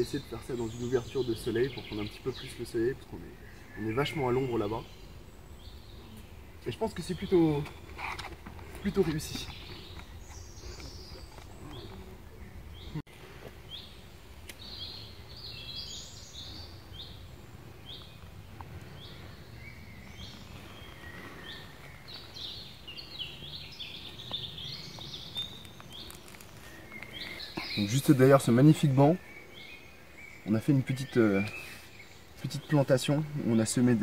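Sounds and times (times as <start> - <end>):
birds chirping: 0.0 - 34.0
birds warbling: 0.0 - 34.0.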